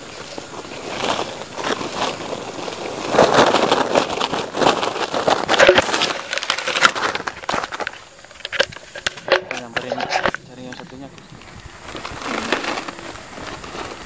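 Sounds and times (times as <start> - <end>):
plastic sack crackling and rustling: 0.0 - 14.0.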